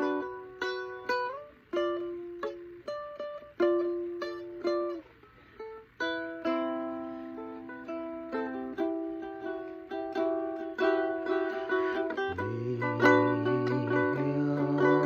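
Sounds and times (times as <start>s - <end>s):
ukulele plucked: 0.0s - 15.0s.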